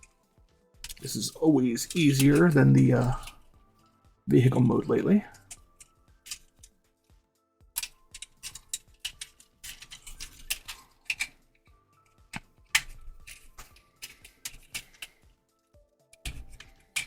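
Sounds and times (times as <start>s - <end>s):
faint background music: 0.0s - 17.0s
toy joints ratcheting: 0.8s - 3.6s, 4.8s - 6.8s, 7.8s - 17.0s.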